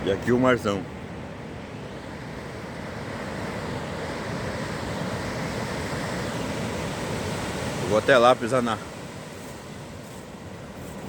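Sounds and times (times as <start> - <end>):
ocean surf on sandy beach: 0.0 - 11.0.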